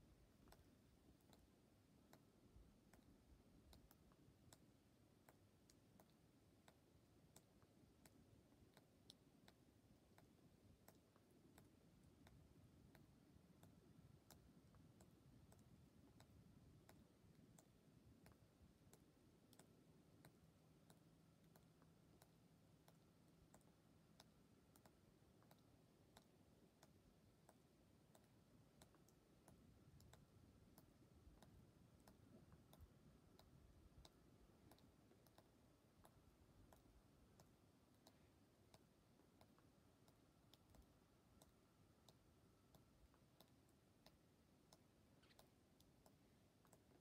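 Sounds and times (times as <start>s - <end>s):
faint sharp clicks: 0.0s - 47.0s.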